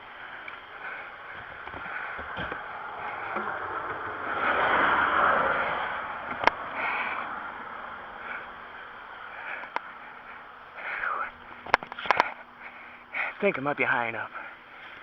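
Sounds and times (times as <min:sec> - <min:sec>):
vehicle passing on highway: 0:00.0 - 0:12.6.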